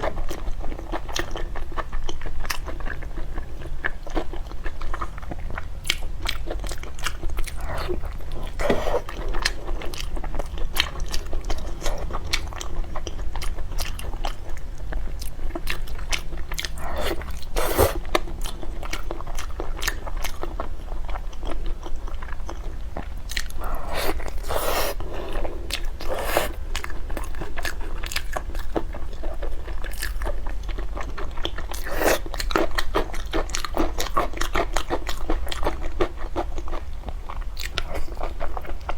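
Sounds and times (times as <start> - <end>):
low steady hum: 0.0 - 33.9
crunchy food chewing: 0.0 - 38.9.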